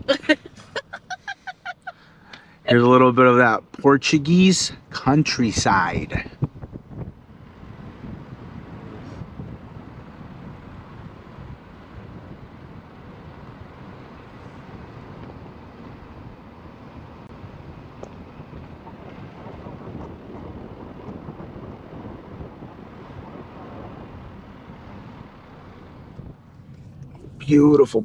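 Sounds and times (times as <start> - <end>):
tyre and road noise: 0.0 - 28.0
wind rushing on microphone: 3.9 - 28.0.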